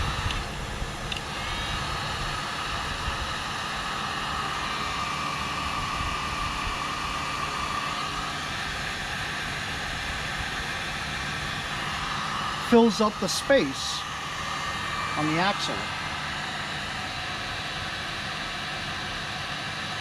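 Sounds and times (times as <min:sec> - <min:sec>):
heat gun blowing: 0:00.0 - 0:19.9.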